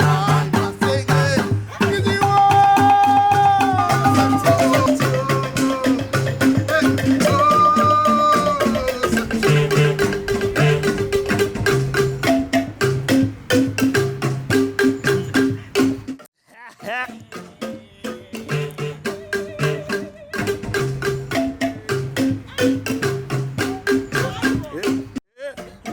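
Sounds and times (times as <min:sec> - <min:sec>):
music with percussion beat: 0:00.0 - 0:25.9.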